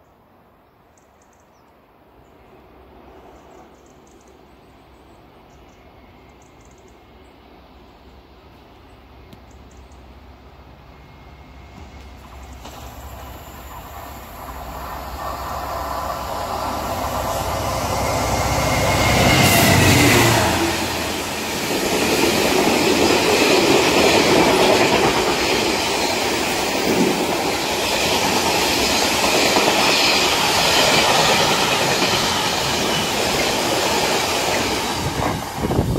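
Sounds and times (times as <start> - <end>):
train passing at speed: 0.0 - 35.9.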